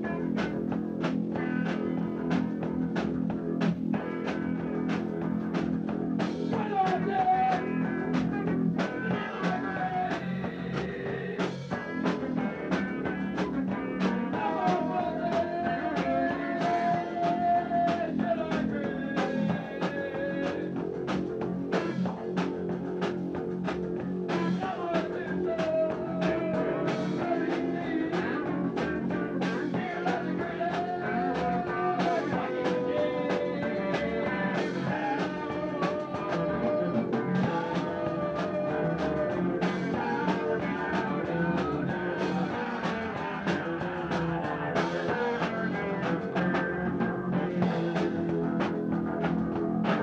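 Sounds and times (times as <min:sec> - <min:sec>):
drum kit beat: 0:00.0 - 0:50.0
guitar: 0:00.0 - 0:50.0.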